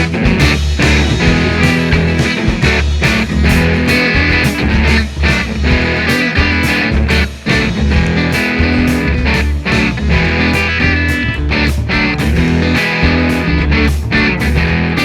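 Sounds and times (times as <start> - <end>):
instrumental rock music with guitar: 0.0 - 15.0.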